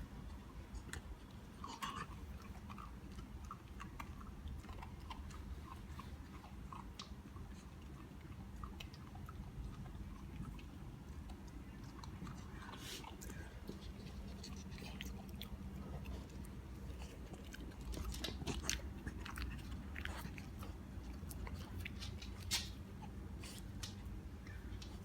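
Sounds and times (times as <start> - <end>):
puppy chewing and gnawing: 0.0 - 25.0
steady low hum: 0.0 - 25.0.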